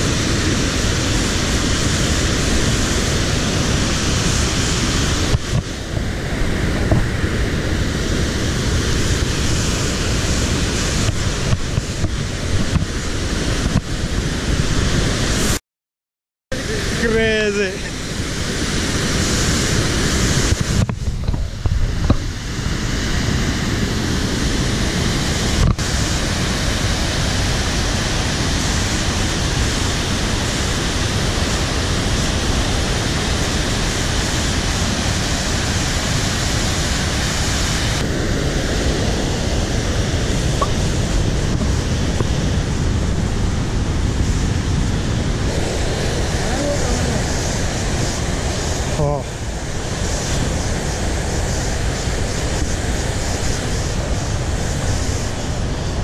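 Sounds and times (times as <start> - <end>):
waterfall rushing over rock: 0.0 - 15.6, 16.5 - 56.0.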